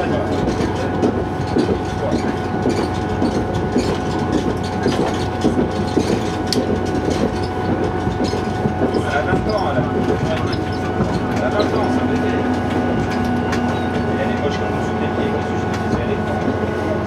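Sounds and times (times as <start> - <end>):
constant whine: 0.0 - 17.0
train running gear rumble: 0.0 - 17.0.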